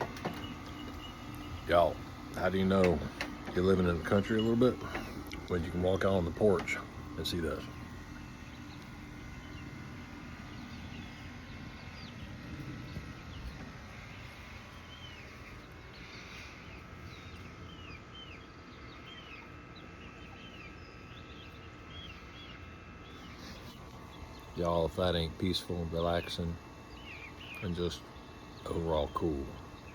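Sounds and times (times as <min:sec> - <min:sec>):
faint steady hum: 0:00.0 - 0:29.9.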